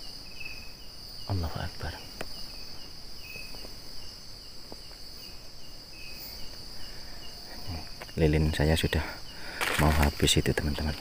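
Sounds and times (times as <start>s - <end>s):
insect chirps: 0.0s - 11.0s
insects trilling: 0.0s - 11.0s.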